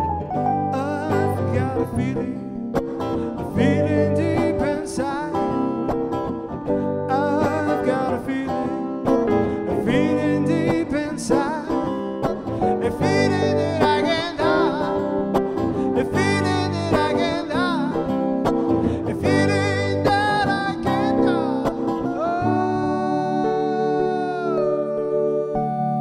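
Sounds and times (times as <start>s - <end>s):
electric guitar: 0.0s - 26.0s
keyboard: 0.0s - 26.0s
man singing: 0.6s - 6.0s, 7.1s - 26.0s.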